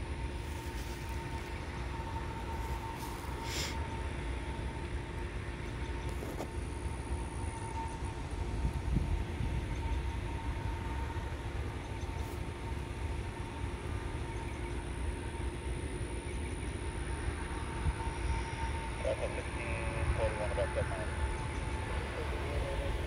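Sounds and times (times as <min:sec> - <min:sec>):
distant jet engines rumbling: 0:00.0 - 0:23.0
faint steady whine: 0:00.0 - 0:23.0.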